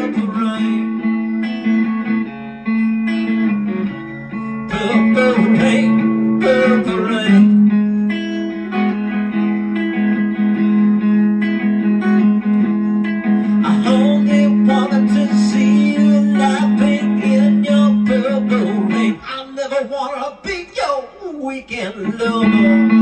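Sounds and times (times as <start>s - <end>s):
electric guitar chords: 0.0s - 23.0s.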